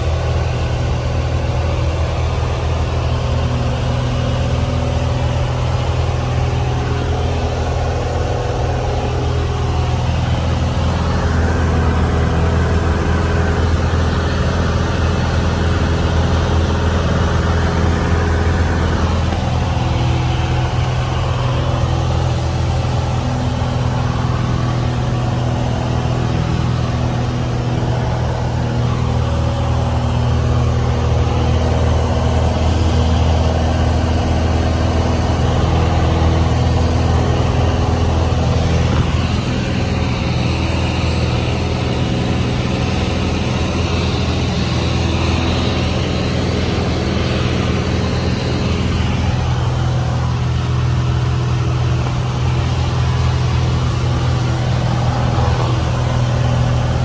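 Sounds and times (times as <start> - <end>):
small plane engine drone in cabin: 0.0 - 57.0.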